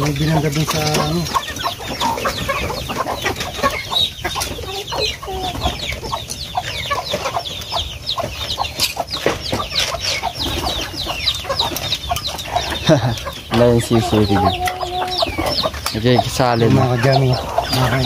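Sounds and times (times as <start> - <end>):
chickens clucking: 0.0 - 18.0
chicks peeping: 0.0 - 18.0.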